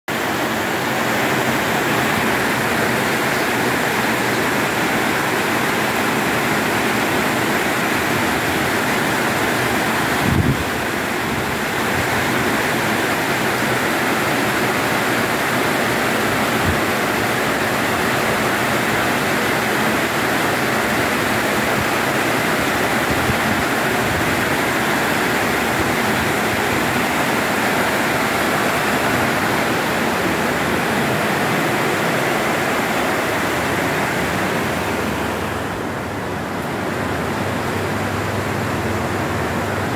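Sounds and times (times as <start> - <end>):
heavy rain on metal roofs: 0.1 - 39.9.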